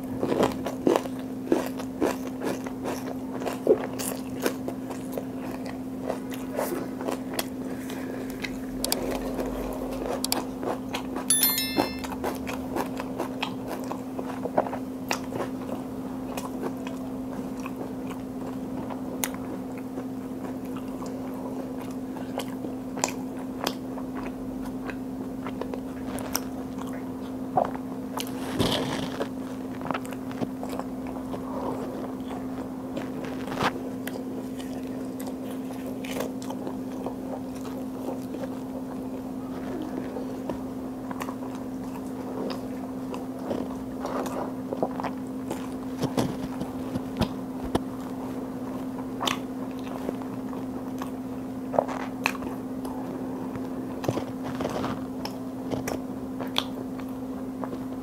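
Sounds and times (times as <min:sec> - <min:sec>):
person chewing food: 0:00.1 - 0:11.2, 0:12.3 - 0:57.8.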